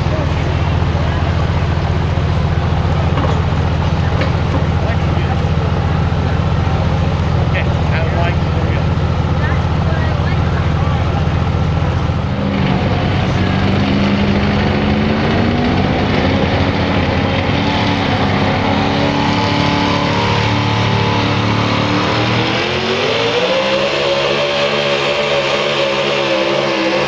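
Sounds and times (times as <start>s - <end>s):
truck engine revving loudly: 0.0s - 27.0s.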